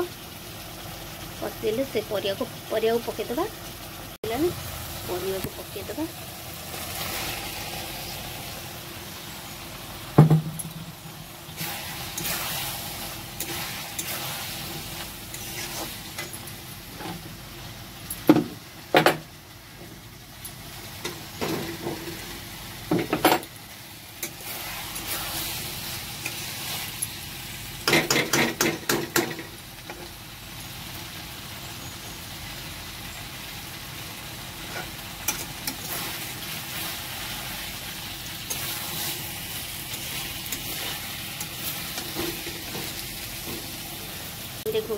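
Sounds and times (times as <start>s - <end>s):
vegetables sizzling in pan: 0.0s - 44.9s.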